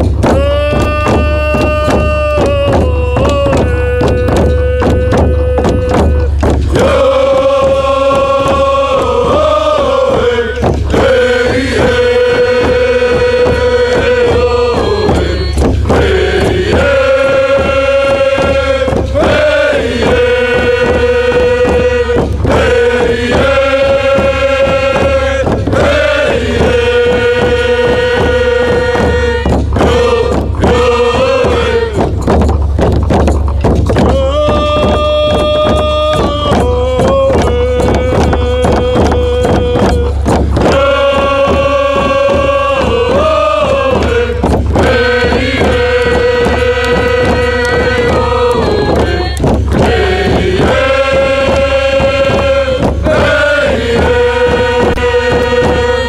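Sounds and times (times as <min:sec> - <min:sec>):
chanted song: 0:00.0 - 0:32.3, 0:33.8 - 0:56.0
steady low drone: 0:02.4 - 0:56.0.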